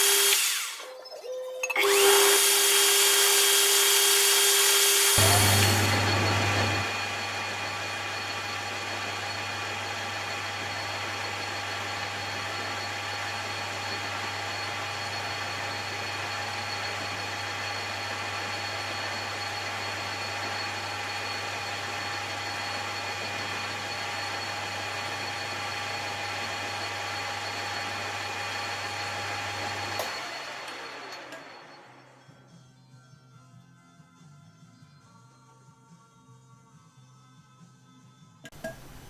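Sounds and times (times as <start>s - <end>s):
metal lathe humming and whining: 0.0s - 0.9s, 1.8s - 32.2s.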